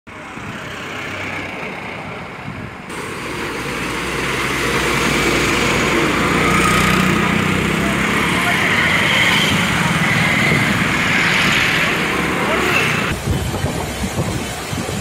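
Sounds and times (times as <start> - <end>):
heavy truck engine: 0.1 - 15.0.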